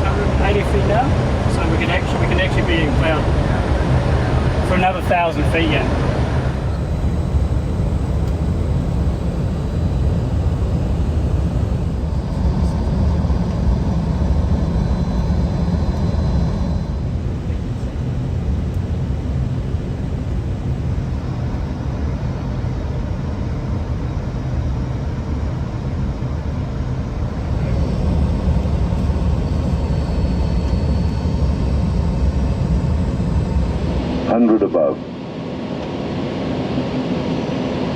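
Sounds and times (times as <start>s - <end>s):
airliner cockpit engine rumble: 0.0s - 37.9s.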